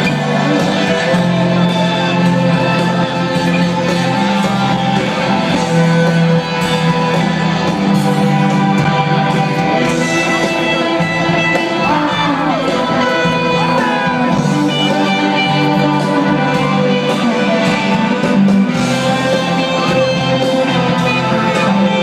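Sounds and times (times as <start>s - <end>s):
electric guitars: 0.0s - 22.0s
rock band playing live: 0.0s - 22.0s.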